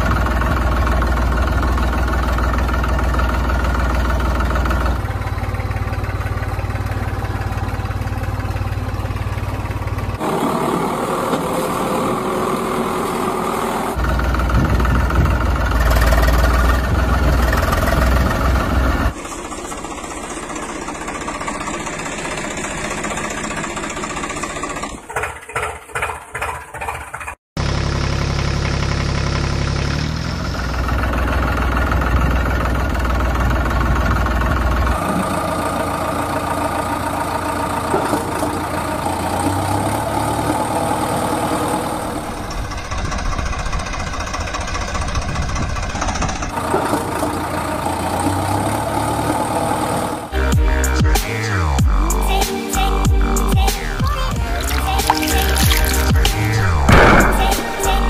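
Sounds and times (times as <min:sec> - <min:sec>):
tractor engine idling: 0:00.0 - 0:58.0.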